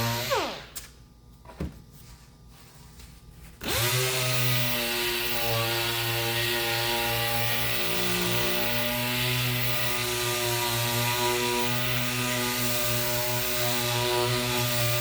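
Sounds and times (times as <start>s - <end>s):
electric sander whining and hissing: 0.0s - 0.7s, 3.6s - 15.0s.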